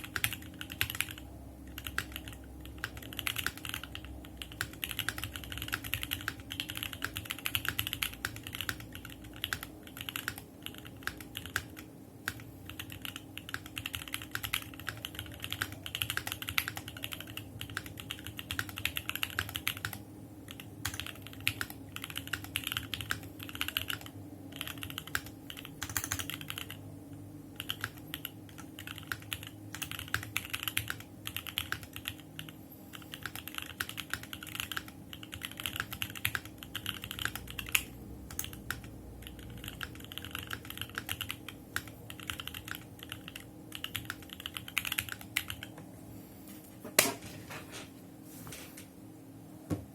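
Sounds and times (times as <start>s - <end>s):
mechanical keyboard typing: 0.0s - 26.8s, 27.6s - 45.8s.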